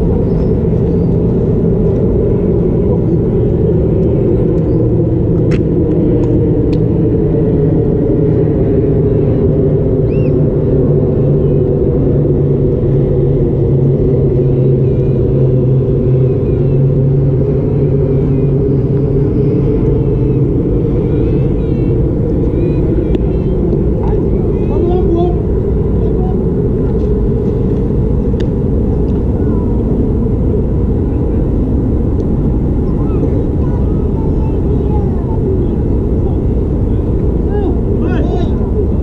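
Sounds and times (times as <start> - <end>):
loud low rumble: 0.0 - 39.0.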